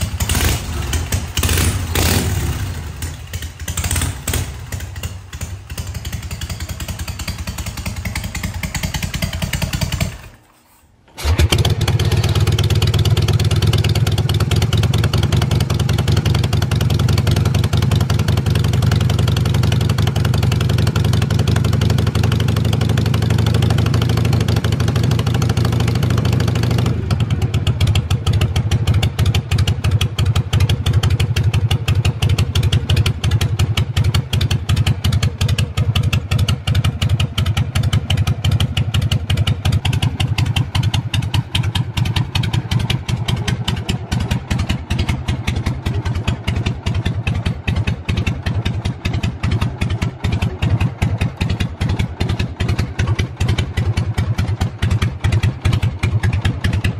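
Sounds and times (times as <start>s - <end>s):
motorcycle engine idling: 0.0s - 10.6s, 11.2s - 56.9s.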